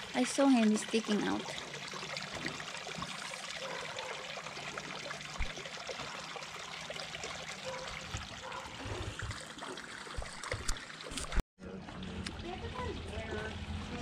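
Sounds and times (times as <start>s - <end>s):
water pouring into pond: 0.0s - 14.0s.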